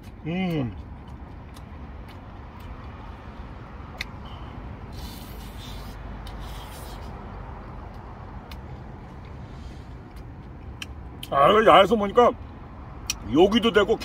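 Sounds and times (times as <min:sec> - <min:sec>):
man chewing pizza: 0:00.0 - 0:11.6
low background rumble: 0:00.0 - 0:14.0.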